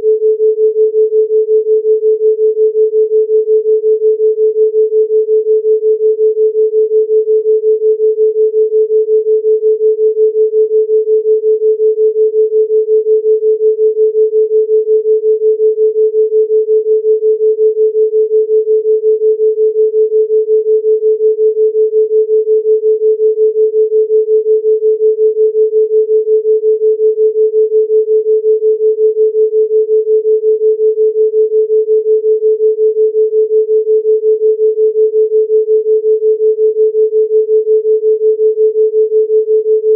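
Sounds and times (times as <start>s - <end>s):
pulsing pure sine tone: 0.0s - 39.9s.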